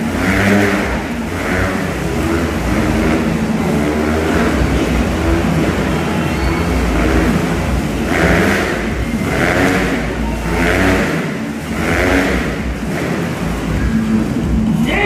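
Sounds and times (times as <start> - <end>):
motorcycles revving: 0.0 - 15.0.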